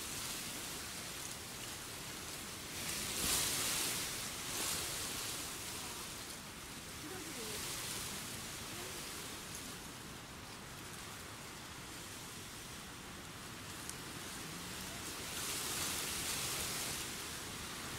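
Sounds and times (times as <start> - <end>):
wind rustling through grass: 0.0 - 17.9.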